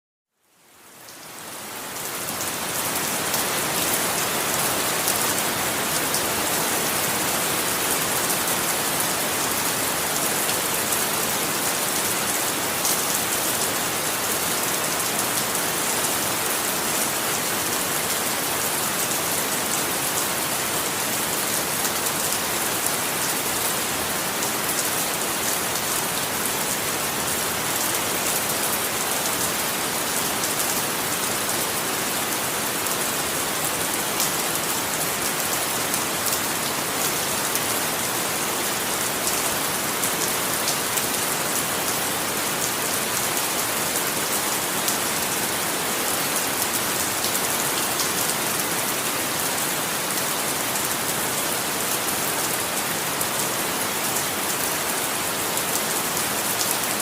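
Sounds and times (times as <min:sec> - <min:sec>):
heavy rain on a surface: 0:00.3 - 0:57.0.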